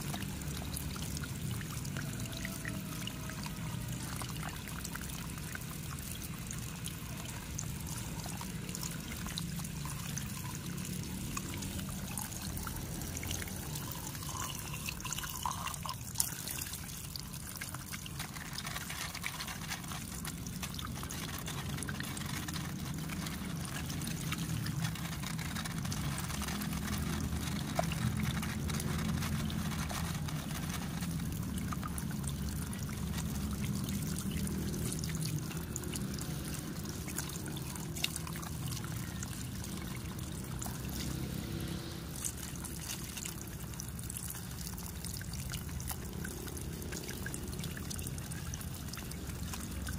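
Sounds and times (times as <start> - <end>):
water pouring and splashing: 0.0 - 49.9
water trickling onto plastic sheet: 0.0 - 49.9.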